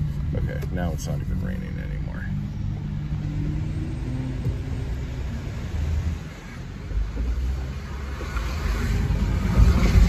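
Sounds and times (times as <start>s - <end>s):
car engine rumble: 0.0s - 10.0s
road noise on wet streets: 0.0s - 10.0s.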